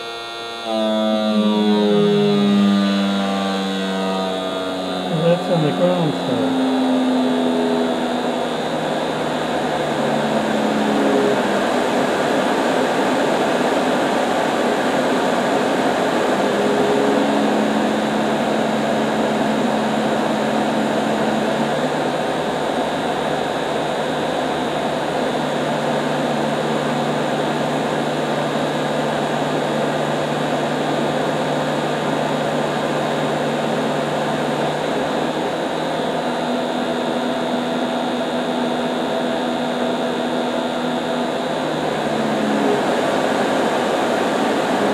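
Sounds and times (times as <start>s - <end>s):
blower rushing air: 0.0s - 44.9s
low motor hum: 0.0s - 44.9s.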